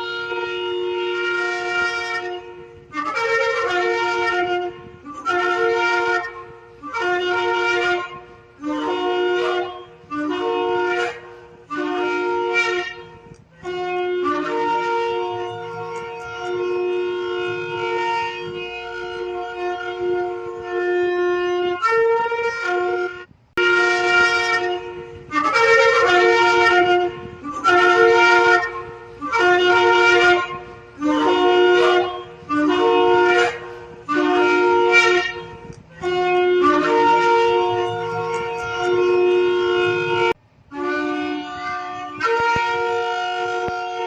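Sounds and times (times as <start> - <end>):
shofar blasts: 0.0 - 44.0.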